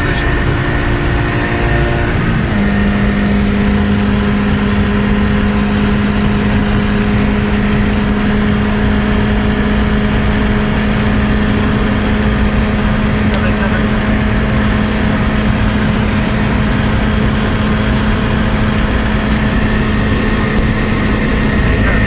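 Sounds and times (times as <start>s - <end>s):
race car engine running hard: 0.0s - 22.0s
road and wind noise: 0.0s - 22.0s.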